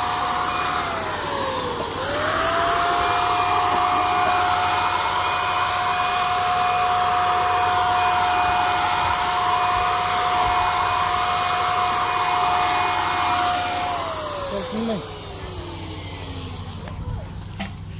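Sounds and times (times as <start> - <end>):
paint spray gun whine: 0.0 - 17.9.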